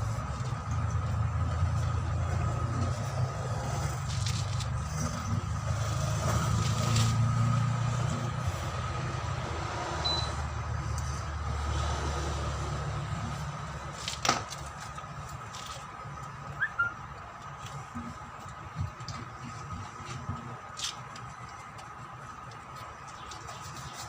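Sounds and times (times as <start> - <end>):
heavy engine rumbling: 0.0 - 24.0.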